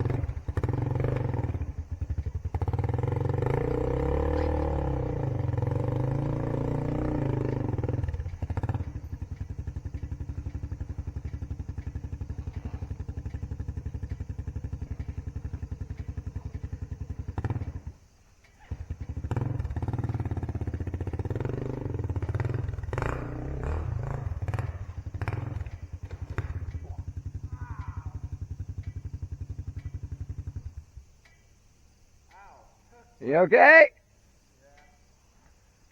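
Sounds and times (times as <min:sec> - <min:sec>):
dirt bike engine revving: 0:00.0 - 0:31.5.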